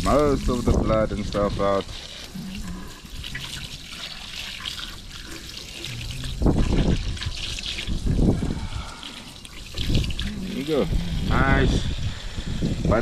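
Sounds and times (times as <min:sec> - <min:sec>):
tap water splashing: 0:00.0 - 0:10.8.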